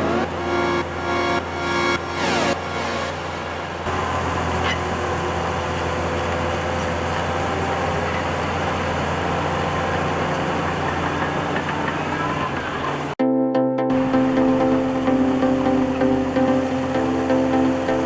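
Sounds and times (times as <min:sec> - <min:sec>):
heavy diesel engine running: 0:00.0 - 0:13.2, 0:14.1 - 0:18.0.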